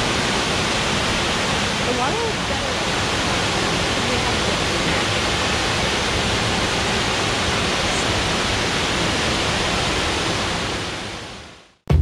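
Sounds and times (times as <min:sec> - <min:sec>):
waterfall roaring: 0:00.0 - 0:11.6.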